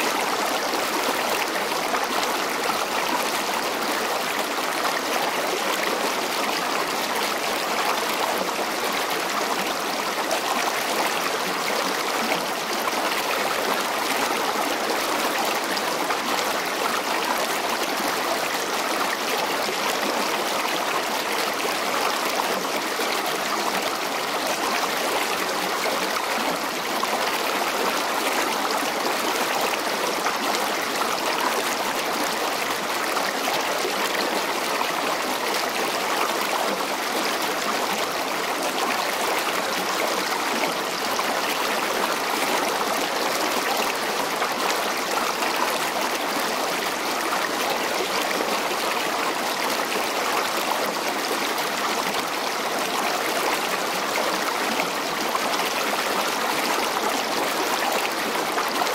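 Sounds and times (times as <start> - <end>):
flowing river water: 0.0 - 58.9.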